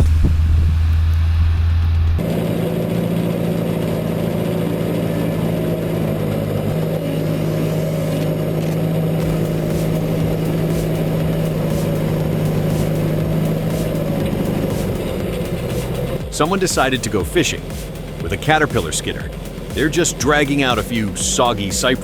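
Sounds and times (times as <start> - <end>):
heavy machine engine running: 0.0 - 22.0.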